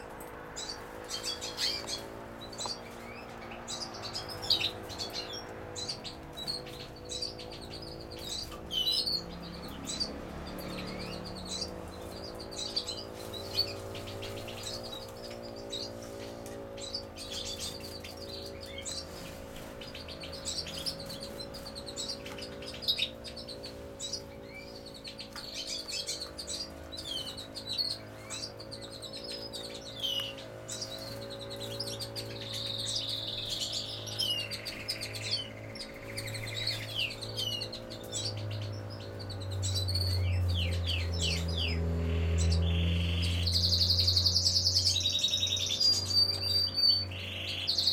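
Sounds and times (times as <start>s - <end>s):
birds chirping and twittering: 0.0s - 47.9s.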